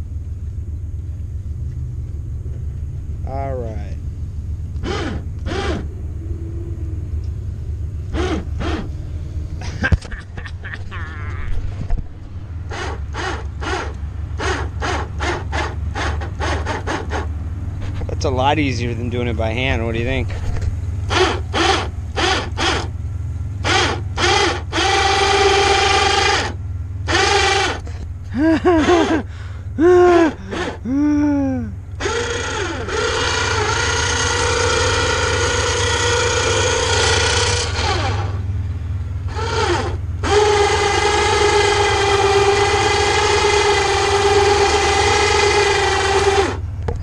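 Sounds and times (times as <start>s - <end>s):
low steady hum: 0.0s - 47.0s
electric winch motor running: 4.7s - 9.9s, 11.2s - 18.1s, 20.4s - 47.0s.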